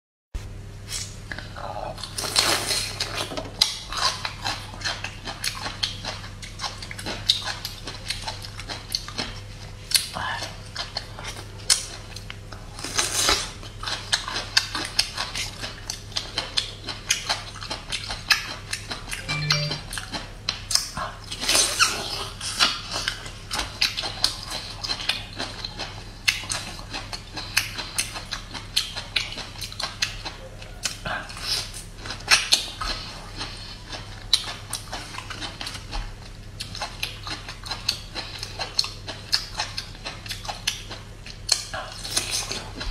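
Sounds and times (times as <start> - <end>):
faint low hum: 0.4 - 42.9
crunchy chewing: 0.9 - 42.9.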